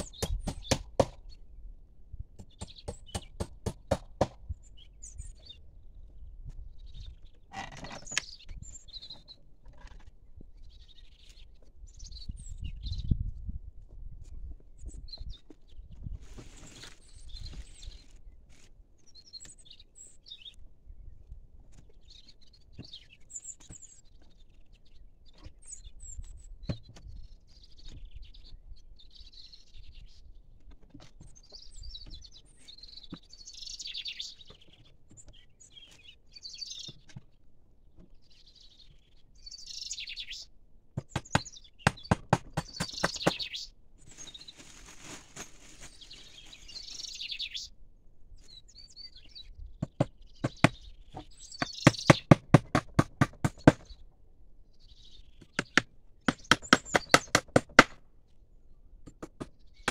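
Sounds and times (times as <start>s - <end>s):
small birds chirping: 0.0s - 1.7s, 2.4s - 13.6s, 14.2s - 59.9s.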